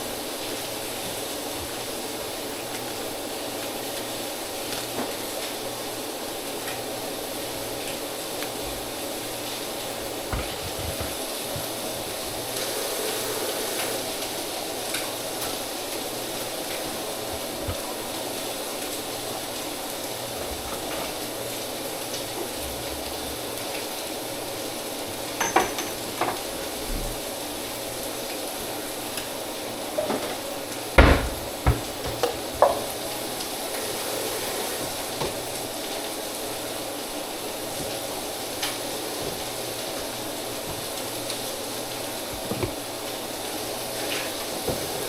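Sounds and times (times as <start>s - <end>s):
food sizzling in a pan: 0.0s - 45.0s.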